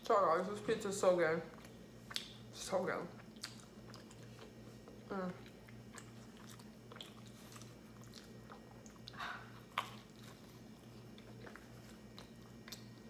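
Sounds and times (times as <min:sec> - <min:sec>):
low steady hum: 0:00.0 - 0:13.0
person chewing pizza: 0:01.5 - 0:13.0.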